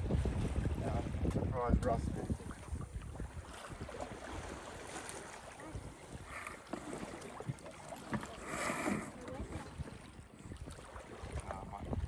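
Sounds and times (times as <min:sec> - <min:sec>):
wind buffeting microphone: 0:00.0 - 0:07.6, 0:08.2 - 0:12.0
water washing along boat hull: 0:00.0 - 0:12.0.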